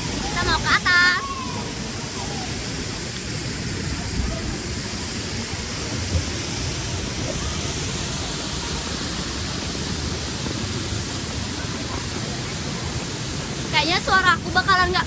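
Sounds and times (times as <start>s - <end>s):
heavy waterfall rushing: 0.0s - 15.0s.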